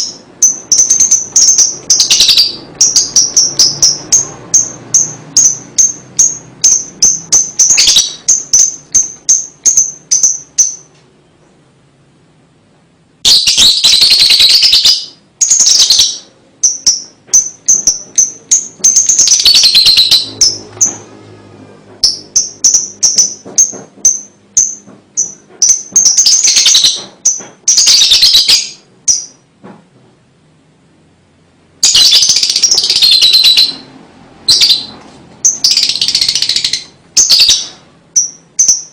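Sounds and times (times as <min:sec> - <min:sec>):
lovebird harsh chattering: 0:00.0 - 0:10.9, 0:13.2 - 0:21.0, 0:22.0 - 0:29.4, 0:31.8 - 0:38.9
lovebird high chirps: 0:00.0 - 0:11.0, 0:13.2 - 0:21.0, 0:22.0 - 0:29.4, 0:31.8 - 0:38.9.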